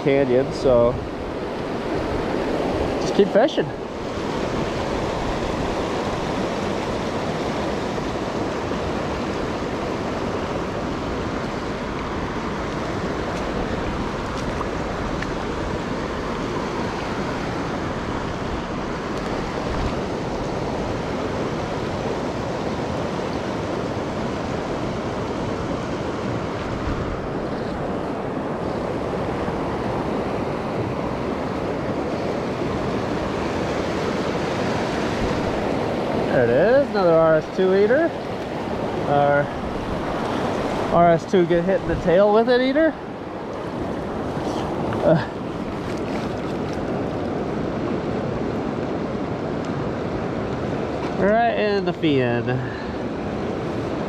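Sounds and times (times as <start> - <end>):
river rushing over rocks: 0.1 - 54.0.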